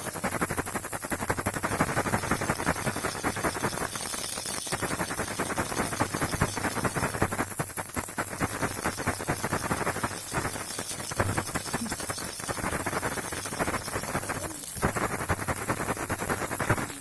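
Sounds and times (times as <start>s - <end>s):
baby rattle shaking: 0.0s - 17.0s
steady hiss: 0.0s - 17.0s.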